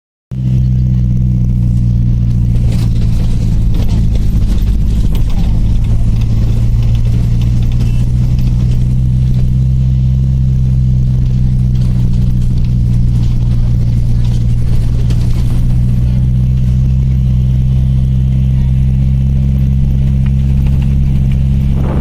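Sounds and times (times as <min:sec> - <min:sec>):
bus engine droning: 0:00.3 - 0:22.0.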